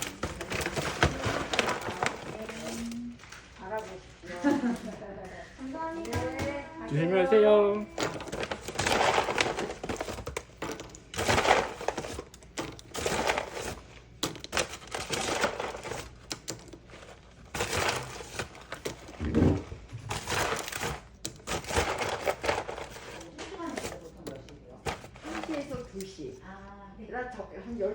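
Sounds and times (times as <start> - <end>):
crackling of things being handled: 0.0 - 26.6.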